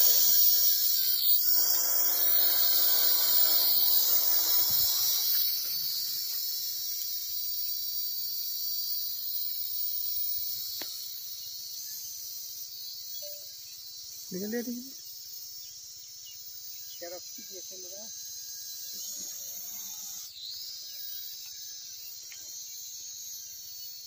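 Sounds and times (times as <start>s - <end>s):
toy drone propellers whining: 0.0s - 13.4s, 17.4s - 24.0s.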